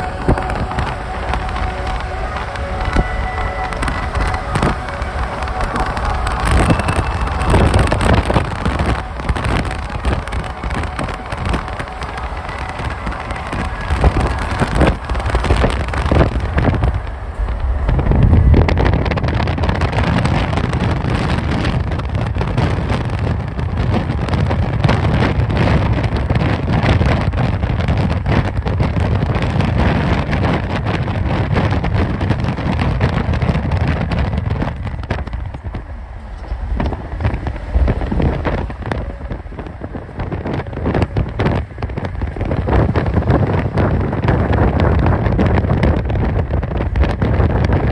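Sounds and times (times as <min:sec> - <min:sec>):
car engine at highway speed: 0:00.0 - 0:47.9
wind and road noise: 0:00.0 - 0:47.9.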